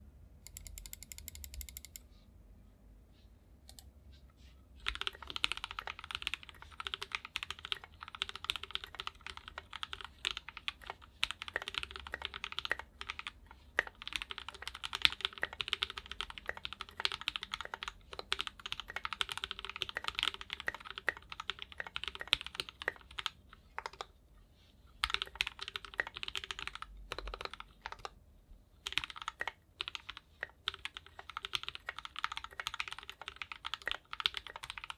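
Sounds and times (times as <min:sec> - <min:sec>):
mechanical keyboard typing: 0:00.5 - 0:02.0, 0:04.8 - 0:24.1, 0:25.0 - 0:28.2, 0:28.8 - 0:34.9.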